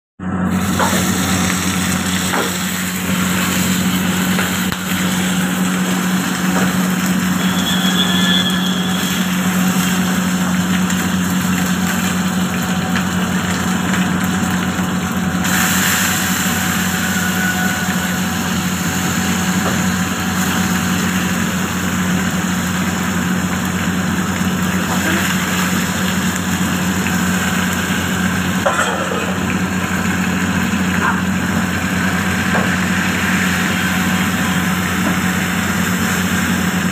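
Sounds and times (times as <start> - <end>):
food frying in hot oil: 0.2 - 36.9
loud mechanical hum: 0.2 - 36.9.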